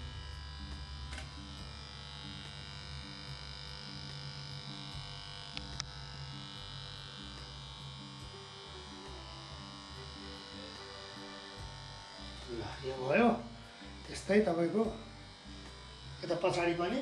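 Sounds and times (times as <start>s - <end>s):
electric hair clipper buzzing: 0.0s - 17.0s.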